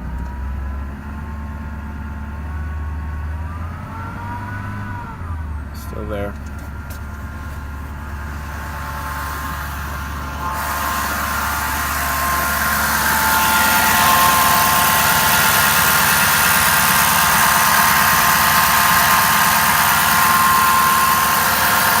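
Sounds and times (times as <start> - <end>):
diesel engine running: 0.0 - 22.0
high-pitched alternator whine: 0.0 - 22.0.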